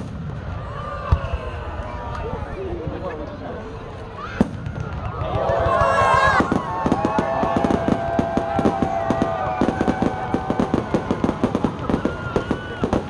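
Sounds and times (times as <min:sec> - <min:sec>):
fireworks crackling and popping: 0:00.0 - 0:02.2, 0:04.2 - 0:13.0.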